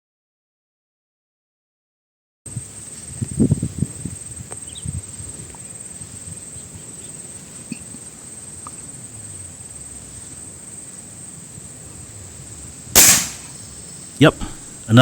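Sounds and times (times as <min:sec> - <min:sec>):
high-pitched insect trill: 0:02.5 - 0:15.0.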